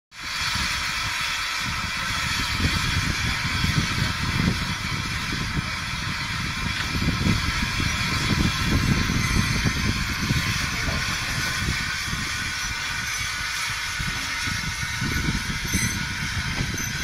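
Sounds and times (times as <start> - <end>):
steam locomotive hissing: 0.2 - 17.0
wind rumbling on microphone: 0.2 - 17.0.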